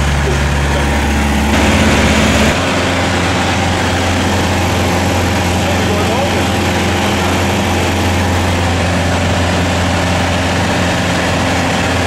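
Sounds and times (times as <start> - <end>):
aircraft engine droning: 0.0 - 12.0
rushing airflow: 0.4 - 12.0.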